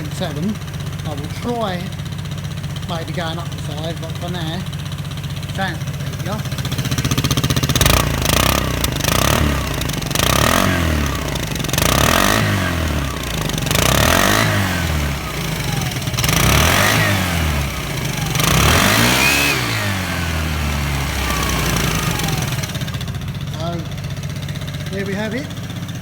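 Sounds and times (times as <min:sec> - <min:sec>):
scooter engine idling and revving: 0:00.0 - 0:26.0.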